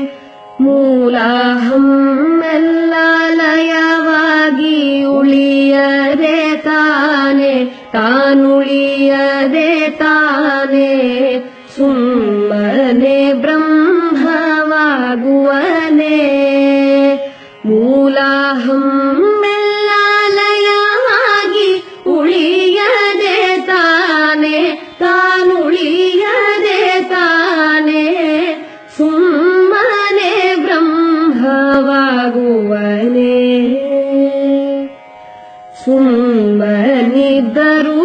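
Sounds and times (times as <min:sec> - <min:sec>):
person singing devotional song: 0:00.0 - 0:35.1, 0:35.7 - 0:38.0.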